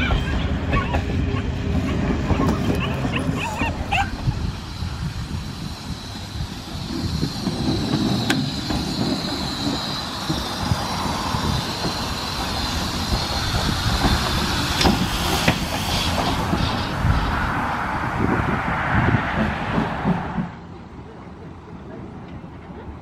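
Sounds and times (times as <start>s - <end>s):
steam locomotive rumbling past: 0.0s - 23.0s.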